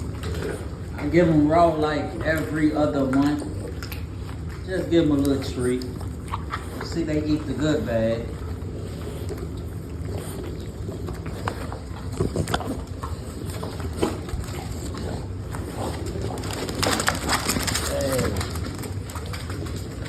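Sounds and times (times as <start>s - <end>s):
dogs chewing and crunching: 0.0s - 20.0s.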